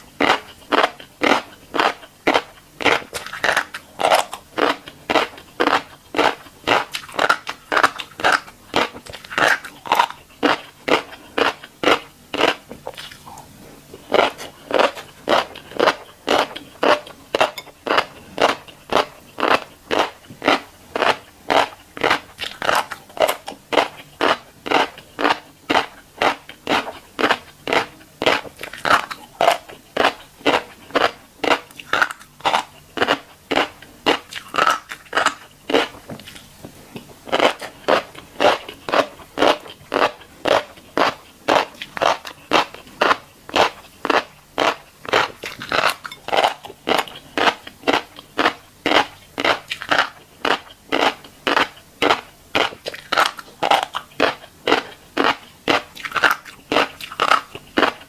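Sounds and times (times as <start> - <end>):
crunchy chewing of seeds: 0.0 - 58.0.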